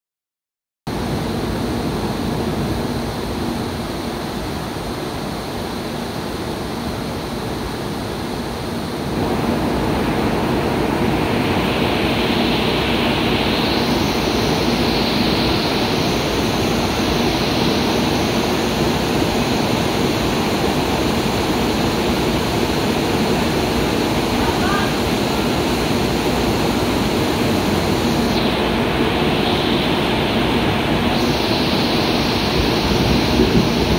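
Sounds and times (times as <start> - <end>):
steady rushing noise: 0.9 - 33.9
high hiss: 1.1 - 33.9.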